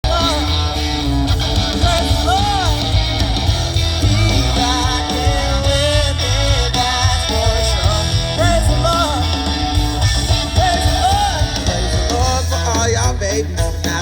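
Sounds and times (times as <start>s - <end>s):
bass line: 0.0s - 14.0s
country song with guitars: 0.0s - 14.0s.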